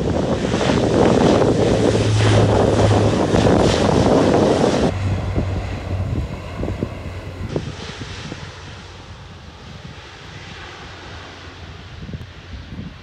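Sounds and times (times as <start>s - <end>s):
propeller plane drone: 0.0s - 13.0s
wind noise on microphone: 0.0s - 13.0s.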